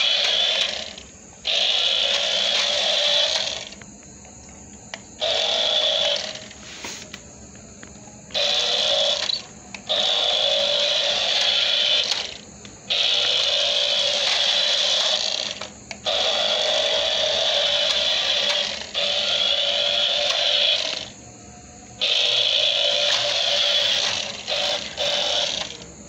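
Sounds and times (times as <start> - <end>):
toy car electric motor whining: 0.0 - 3.8, 4.9 - 7.2, 8.3 - 21.2, 22.0 - 26.0.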